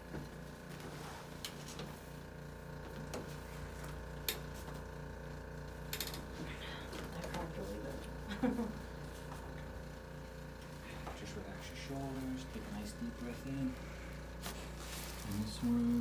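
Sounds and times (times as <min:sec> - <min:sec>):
machine humming with pulse: 0:00.0 - 0:16.0.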